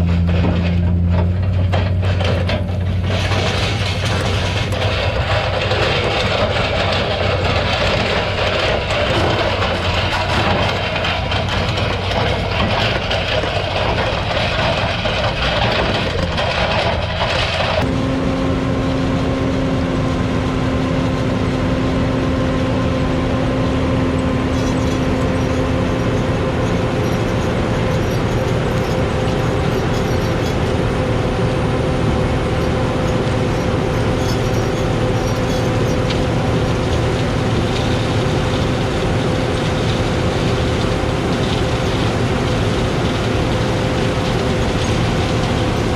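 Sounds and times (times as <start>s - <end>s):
engine whine: 0.0s - 45.9s
heavy vehicle engine droning: 0.0s - 45.9s.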